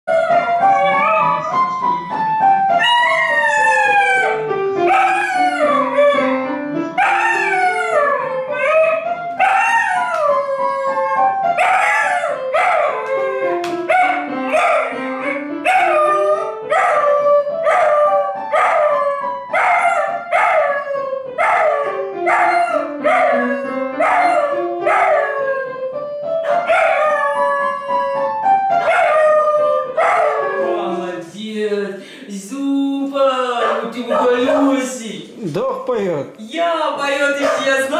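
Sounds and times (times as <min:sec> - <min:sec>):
dog howling: 0:00.1 - 0:01.6, 0:02.7 - 0:06.4, 0:07.0 - 0:31.0, 0:33.5 - 0:34.9
low musical notes: 0:00.1 - 0:31.6.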